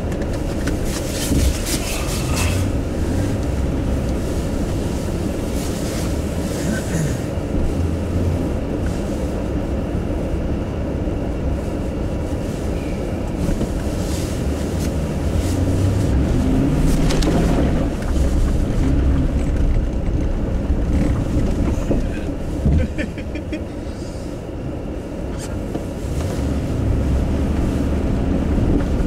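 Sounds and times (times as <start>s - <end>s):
car driving on snowy road: 0.0s - 29.0s.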